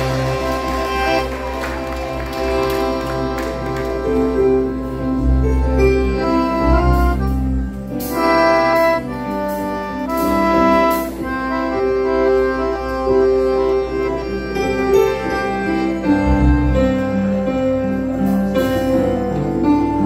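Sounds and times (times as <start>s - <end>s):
accordion and keyboard hymn chords: 0.0s - 20.0s.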